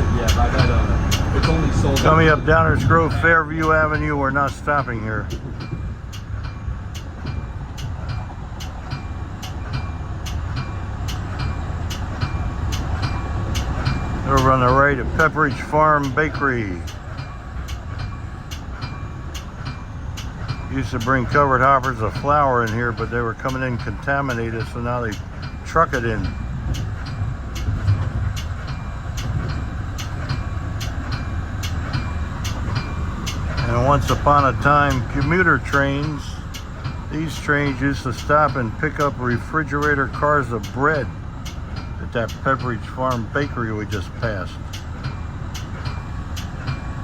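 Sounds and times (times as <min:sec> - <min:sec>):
regular rhythmic ticking: 0:00.0 - 0:47.0
sharp track clicks: 0:00.0 - 0:47.0
train low rumble: 0:00.0 - 0:47.0.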